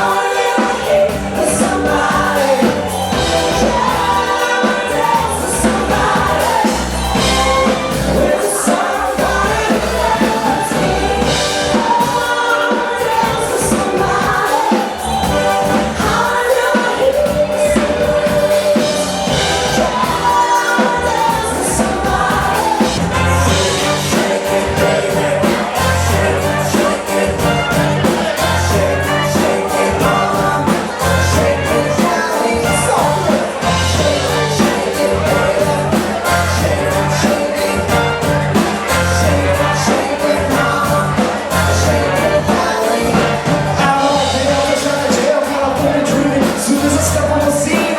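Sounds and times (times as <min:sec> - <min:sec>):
live band playing amplified music: 0:00.0 - 0:47.9
person singing: 0:00.0 - 0:47.9.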